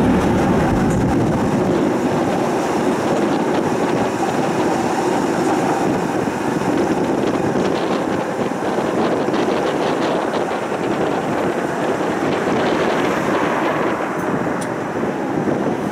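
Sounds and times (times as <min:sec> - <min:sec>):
tram wheels rumbling on rails: 0:00.0 - 0:15.9.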